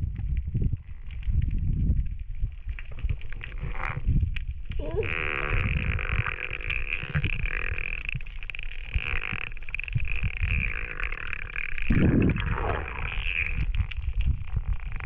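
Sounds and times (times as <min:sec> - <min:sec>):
underwater gurgling and rumbling: 0:00.0 - 0:15.0.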